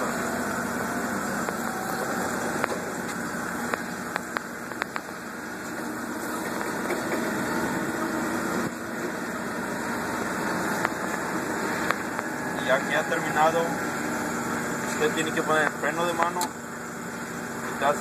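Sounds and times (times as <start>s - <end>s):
forklift engine running: 0.0s - 18.0s.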